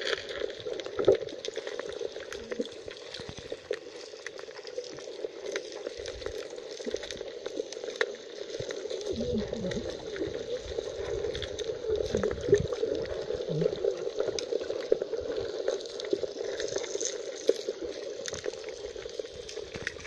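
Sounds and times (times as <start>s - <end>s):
small clicks and crackles: 0.0s - 20.0s
underwater hum: 0.0s - 20.0s
water bubbling: 0.0s - 20.0s.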